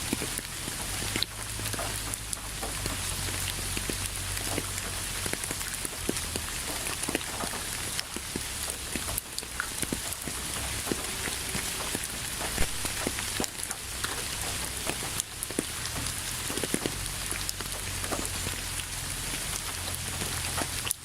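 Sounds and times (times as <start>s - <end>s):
rain hissing: 0.0s - 21.0s.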